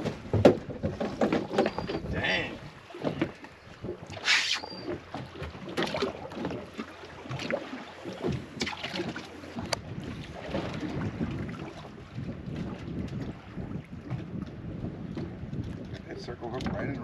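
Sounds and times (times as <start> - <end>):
wind buffeting microphone: 0.0 - 5.2, 8.1 - 17.0.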